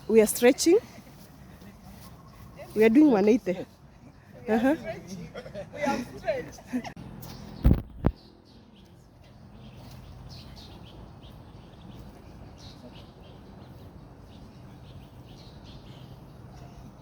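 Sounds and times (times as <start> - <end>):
birds chirping: 0.0 - 17.0
low background noise: 0.0 - 17.0.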